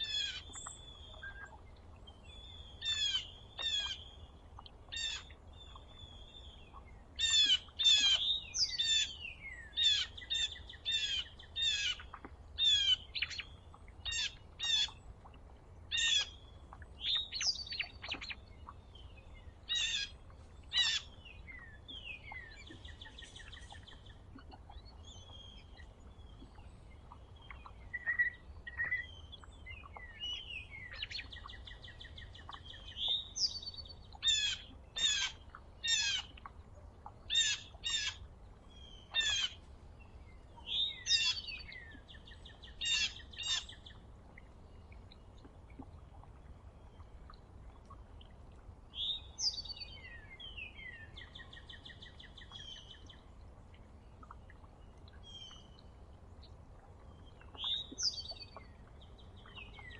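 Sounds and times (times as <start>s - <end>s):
faint steady hum: 0.0s - 59.9s
songbirds calling: 0.0s - 59.9s.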